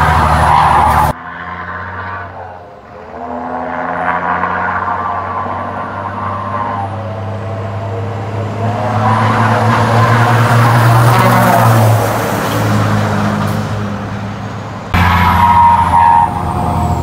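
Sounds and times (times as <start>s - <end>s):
truck diesel engine approaching: 0.0s - 17.0s.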